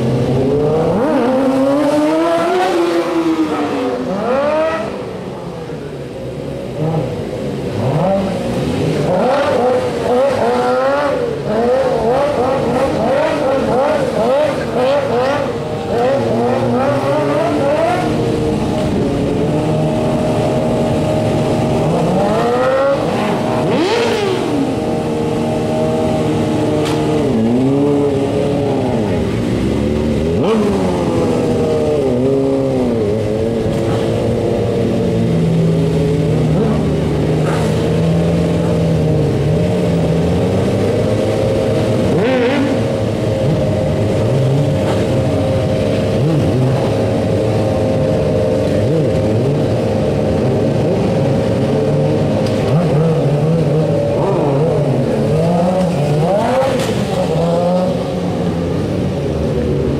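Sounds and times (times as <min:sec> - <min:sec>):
motorbike engine revving: 0:00.0 - 0:05.2, 0:06.7 - 0:59.9.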